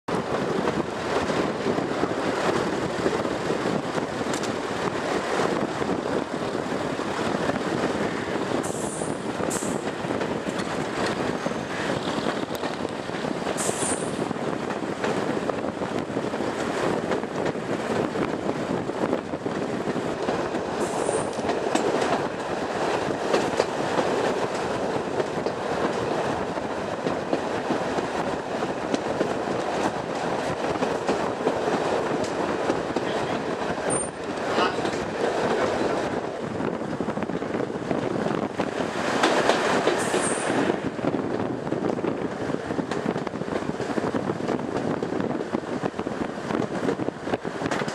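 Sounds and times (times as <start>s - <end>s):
train wheel and track noise: 0.1s - 47.9s.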